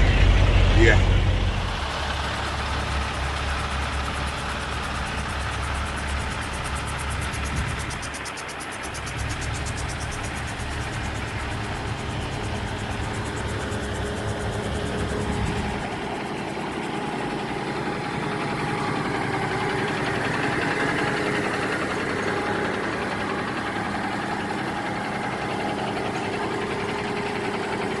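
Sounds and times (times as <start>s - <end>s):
truck diesel engine humming: 0.0s - 28.0s.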